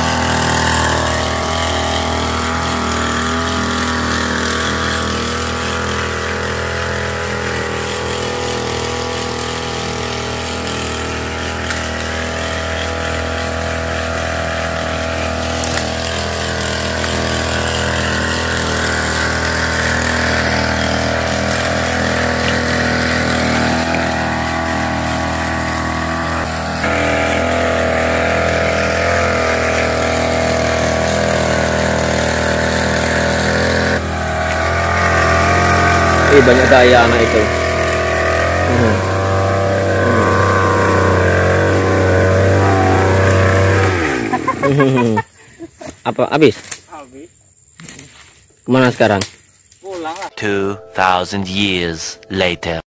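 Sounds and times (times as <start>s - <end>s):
small sprayer engine running: 0.0s - 45.3s.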